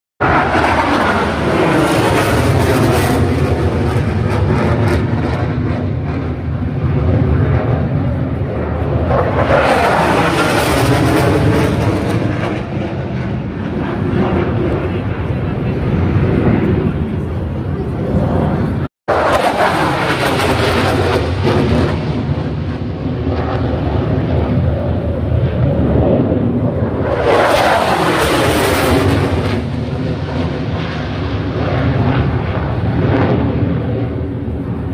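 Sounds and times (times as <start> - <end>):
jet aircraft flying over: 0.2 - 34.9.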